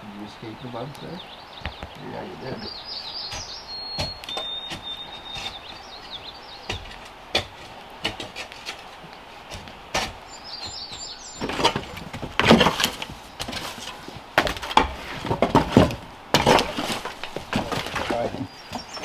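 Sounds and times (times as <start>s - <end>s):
bird chirping: 0.0s - 19.0s
wooden knocks and cracks: 1.6s - 19.0s.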